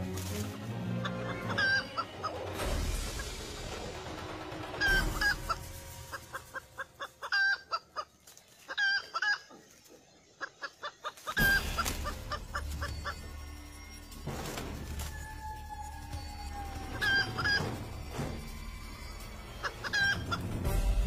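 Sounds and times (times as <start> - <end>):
roosters clucking and calling: 0.0 - 21.0.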